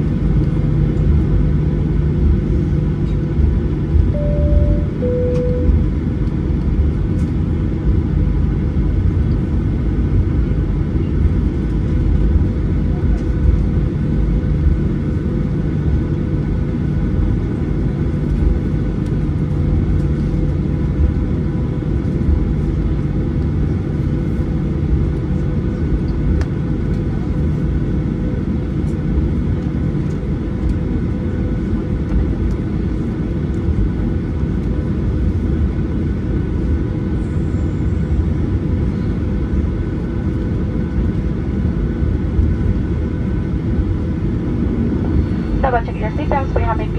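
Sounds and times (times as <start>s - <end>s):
steady cabin hum: 0.0s - 36.7s, 39.4s - 46.9s
jet engines rumbling: 0.0s - 46.9s.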